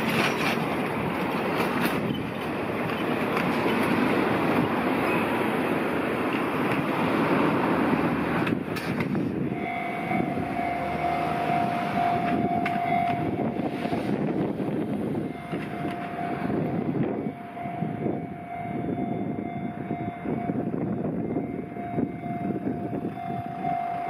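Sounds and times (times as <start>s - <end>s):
freight train rushing: 0.0s - 24.0s
locomotive whine: 0.0s - 24.0s
train rumble: 0.0s - 24.0s.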